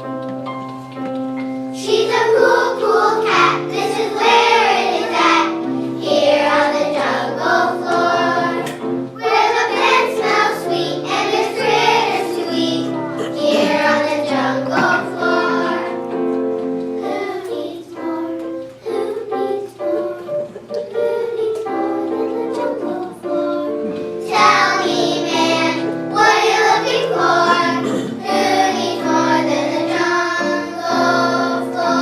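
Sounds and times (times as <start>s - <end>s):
instrumental backing music: 0.0s - 32.0s
children singing: 1.8s - 32.0s.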